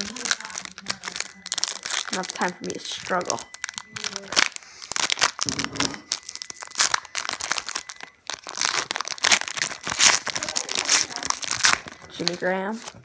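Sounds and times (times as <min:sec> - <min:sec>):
foil wrapper tearing and crinkling: 0:00.0 - 0:13.0.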